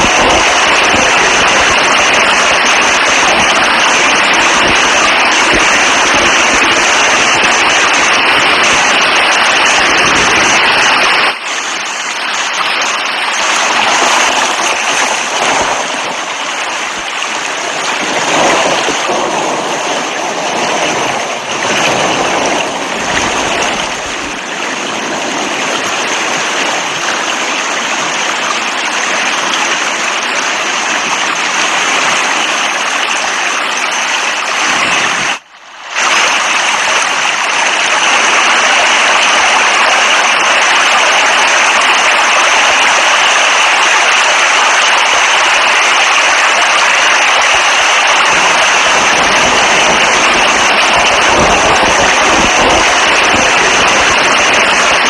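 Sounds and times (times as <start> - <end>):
light uneven rain: 0.0 - 55.0
rain hissing: 0.0 - 55.0.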